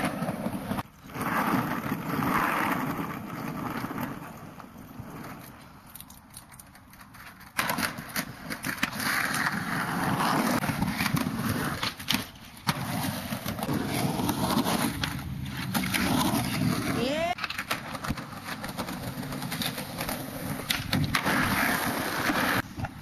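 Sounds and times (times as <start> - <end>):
skateboard clacking on ground: 0.0 - 23.0
skateboard wheels rolling on concrete: 0.0 - 23.0.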